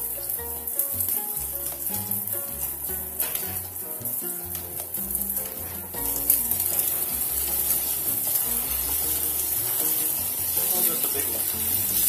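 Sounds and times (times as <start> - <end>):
background music: 0.0 - 12.0
onions sizzling in oil: 0.0 - 12.0
ham scraped into pan: 1.1 - 12.0.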